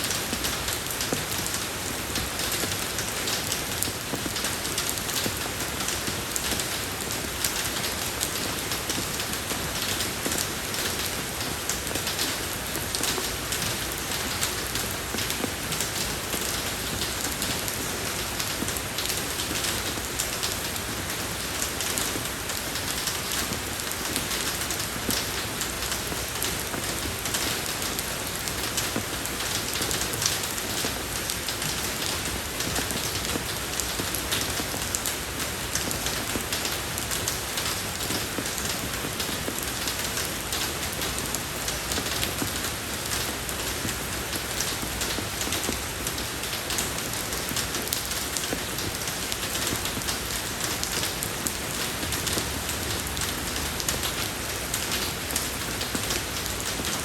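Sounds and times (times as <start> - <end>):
rain pattering on a road: 0.0 - 57.0.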